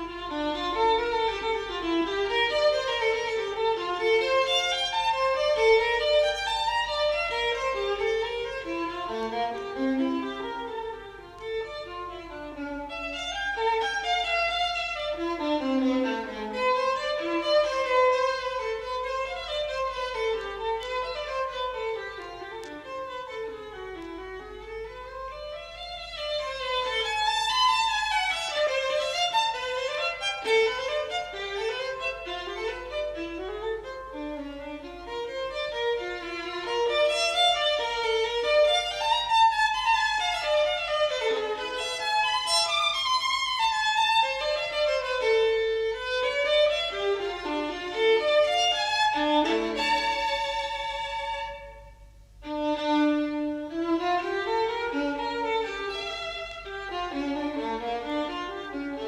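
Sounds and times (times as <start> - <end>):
violin melody: 0.0 - 59.0.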